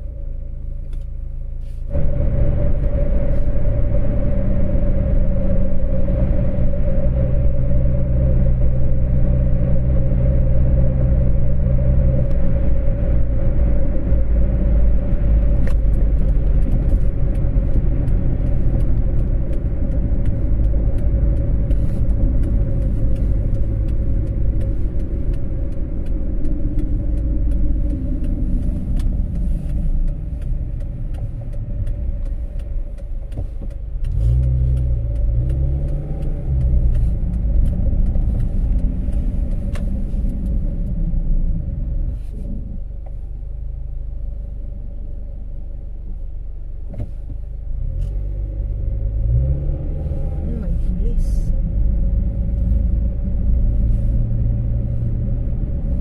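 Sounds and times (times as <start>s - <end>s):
car engine and tyres rumbling: 0.0s - 56.0s
constant hum: 0.0s - 56.0s.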